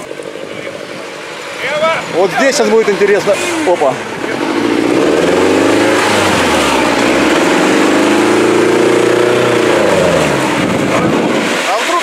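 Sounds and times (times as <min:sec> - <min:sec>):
buggy engine revving hard: 0:01.1 - 0:12.0.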